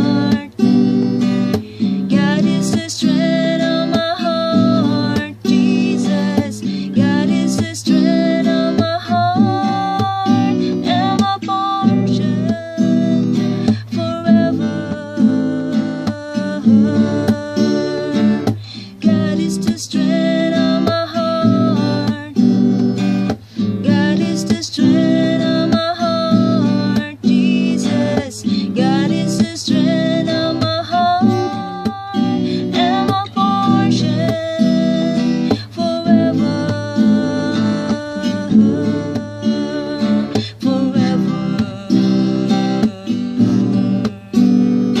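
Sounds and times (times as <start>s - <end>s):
acoustic guitar strumming: 0.0s - 45.0s.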